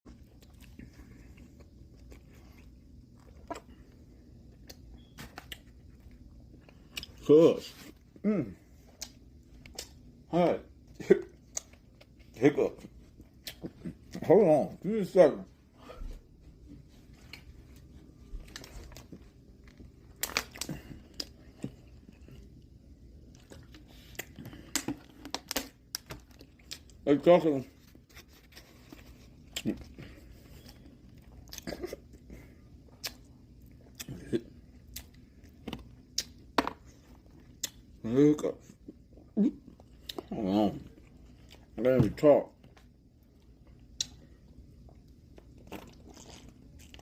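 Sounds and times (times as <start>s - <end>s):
person chewing food: 0.1s - 14.3s, 16.0s - 27.0s, 27.8s - 38.0s, 38.7s - 41.8s, 42.6s - 47.0s
low background hum: 0.1s - 47.0s.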